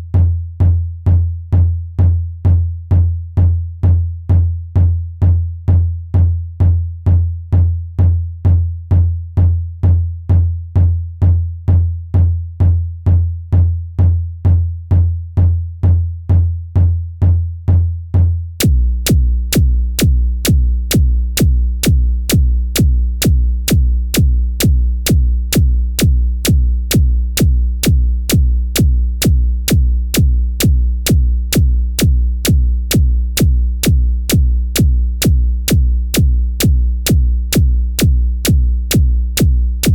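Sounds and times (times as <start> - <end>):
electronic kick drum: 0.0 - 39.9.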